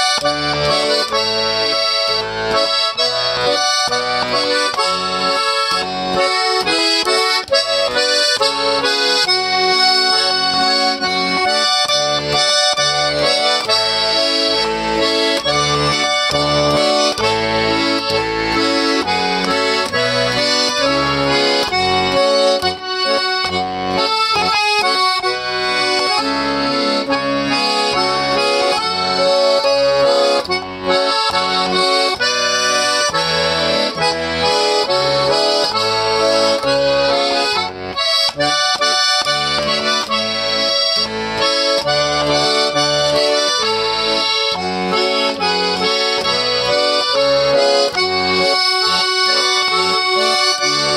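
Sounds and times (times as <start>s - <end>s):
button accordion folk tune: 0.0s - 50.9s.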